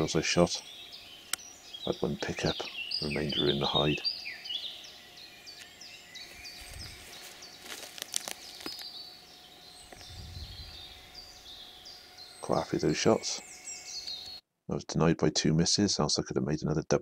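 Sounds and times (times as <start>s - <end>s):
birds chirping: 0.0s - 14.8s.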